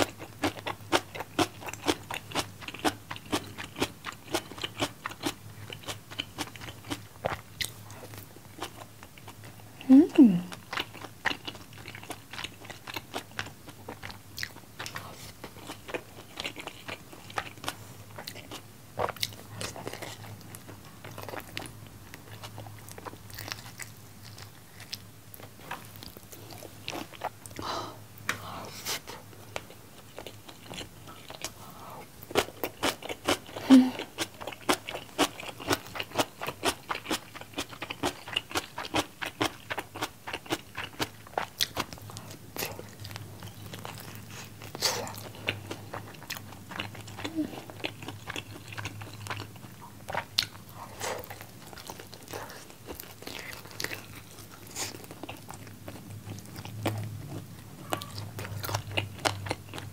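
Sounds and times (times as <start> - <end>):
chewing fried chicken: 0.0 - 59.9.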